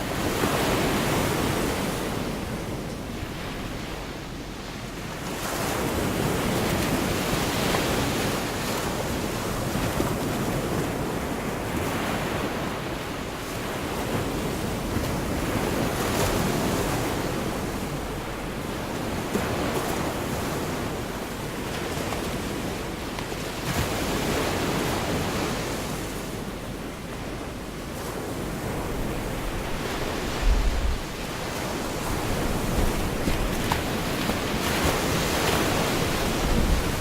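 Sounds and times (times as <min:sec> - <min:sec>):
waves breaking on beach: 0:00.0 - 0:37.0.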